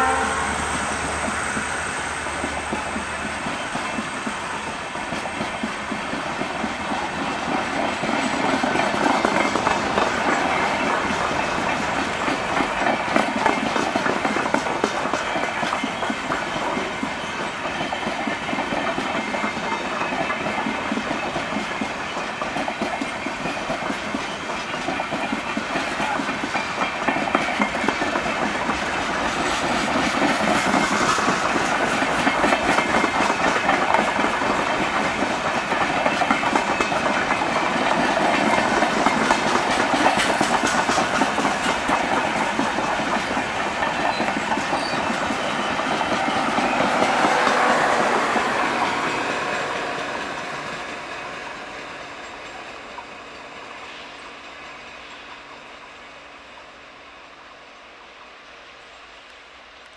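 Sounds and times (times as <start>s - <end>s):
train wheels clattering over rail joints: 0.7s - 53.6s.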